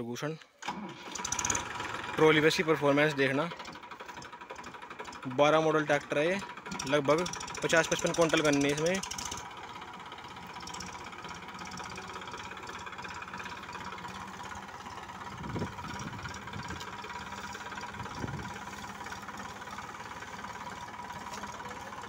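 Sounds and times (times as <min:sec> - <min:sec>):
tractor diesel engine under load: 0:00.6 - 0:22.0.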